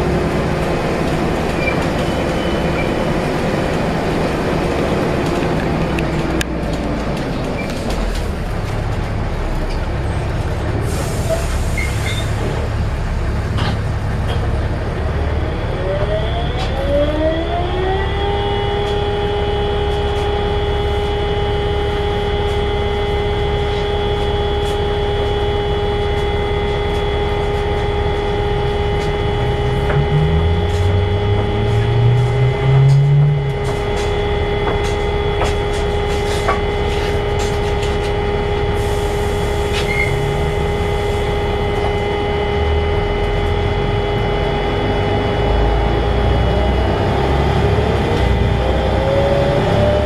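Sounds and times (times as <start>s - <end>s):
bus cooling fan whine: 0.0s - 50.0s
bus engine and road noise: 0.0s - 50.0s.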